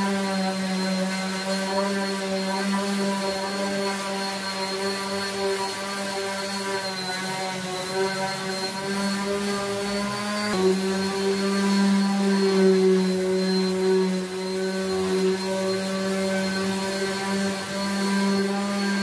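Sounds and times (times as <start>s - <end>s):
electric orbital sander whine: 0.0s - 19.0s.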